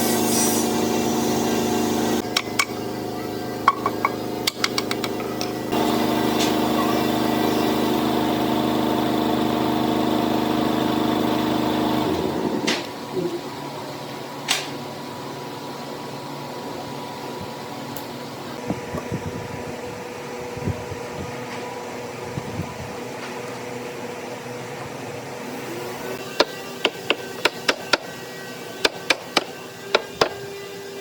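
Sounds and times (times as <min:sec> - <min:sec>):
workshop machinery humming: 0:00.0 - 0:31.0.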